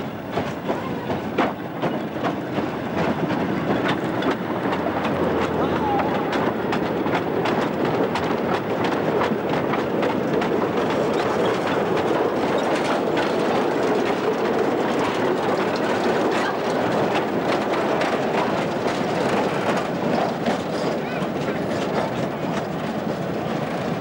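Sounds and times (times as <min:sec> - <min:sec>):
wagon wheels rumbling over rails: 0:00.0 - 0:24.0.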